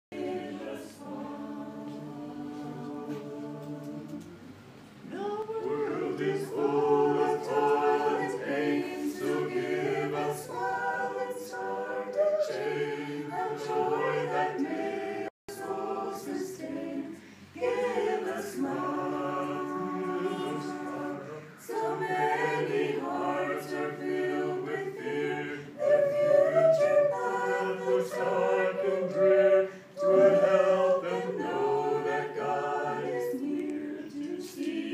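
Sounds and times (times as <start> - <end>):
group singing a hymn a cappella: 0.1 - 34.9.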